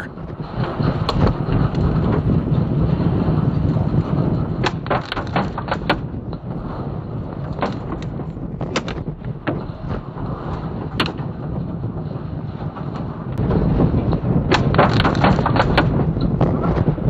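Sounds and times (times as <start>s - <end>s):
storm wind blowing on microphone: 0.0s - 17.0s.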